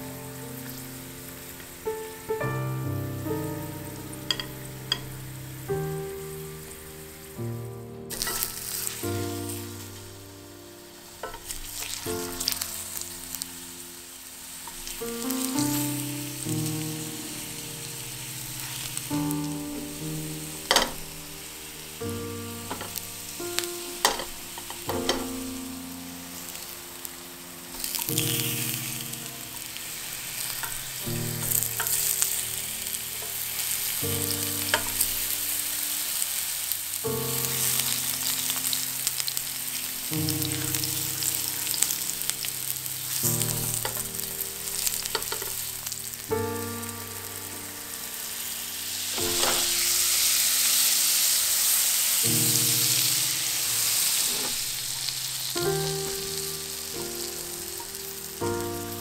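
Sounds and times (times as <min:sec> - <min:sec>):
steady sizzling hiss: 0:00.0 - 0:59.0.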